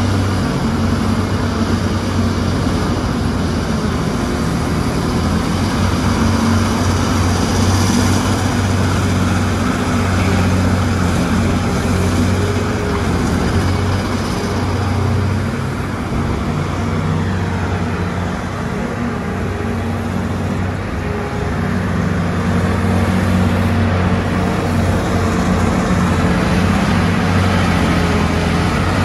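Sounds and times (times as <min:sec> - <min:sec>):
mining shovel engines droning: 0:00.0 - 0:29.0.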